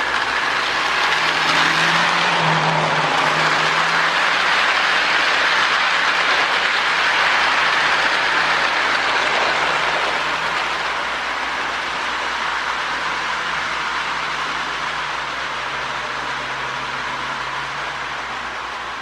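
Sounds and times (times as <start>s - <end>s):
gears whirring: 0.0s - 18.9s
toy train motor hum: 0.0s - 19.0s
wheels rattling on rails: 0.0s - 19.0s.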